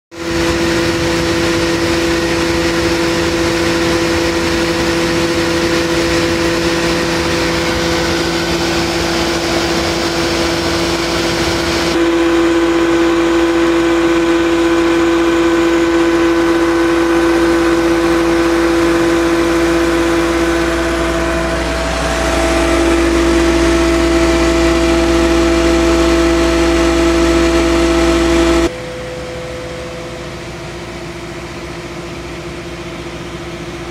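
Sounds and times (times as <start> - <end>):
wood shaper machine hum: 0.2 - 29.7.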